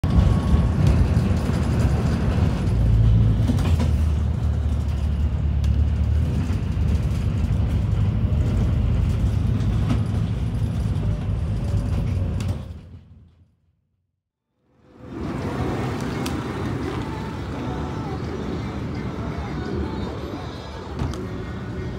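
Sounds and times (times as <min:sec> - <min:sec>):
road and engine rumble: 0:00.0 - 0:13.6, 0:14.6 - 0:21.9.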